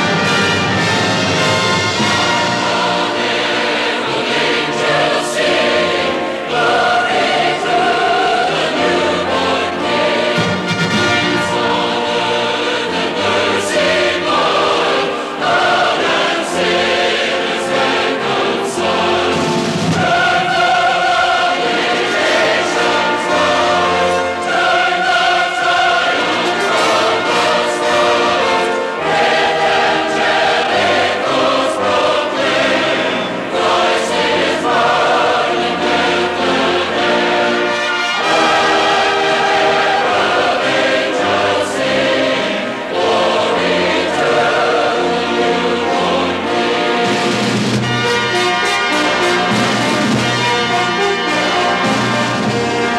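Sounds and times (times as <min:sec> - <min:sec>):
choir singing: 0:00.0 - 0:52.9
instruments accompanying: 0:00.0 - 0:52.9.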